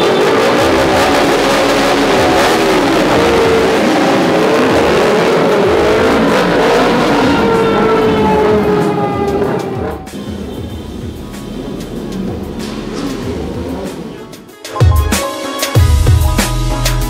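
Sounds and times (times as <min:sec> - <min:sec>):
motorcycles revving: 0:00.0 - 0:14.5.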